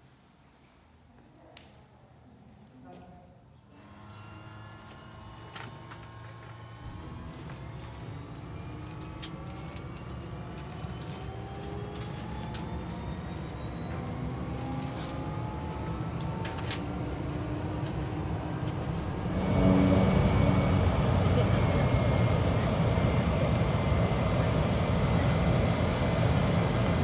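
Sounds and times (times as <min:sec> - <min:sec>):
turboprop engine whine: 0:03.9 - 0:27.0.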